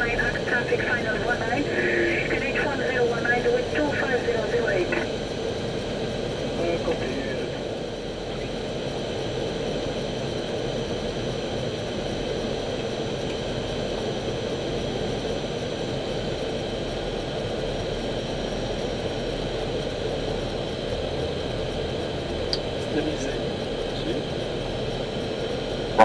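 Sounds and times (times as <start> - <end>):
airflow and engines rushing: 0.0 - 26.0
thin steady high tones: 0.0 - 26.0.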